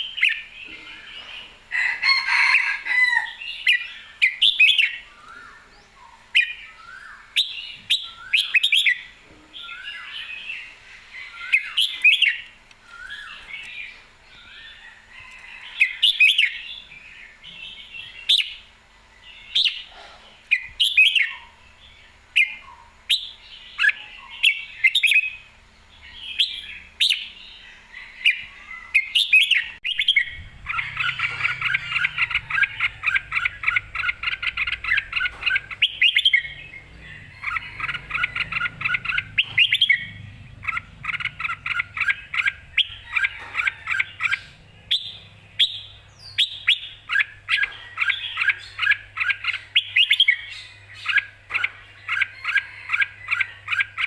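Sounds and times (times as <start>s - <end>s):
bird warbling song: 0.0s - 54.0s.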